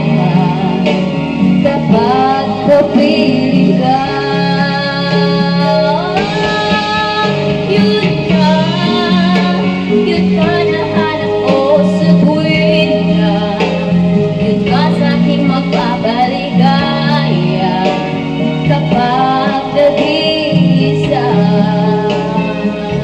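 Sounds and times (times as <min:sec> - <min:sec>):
backing music: 0:00.0 - 0:23.0
woman singing into a microphone: 0:00.0 - 0:23.0.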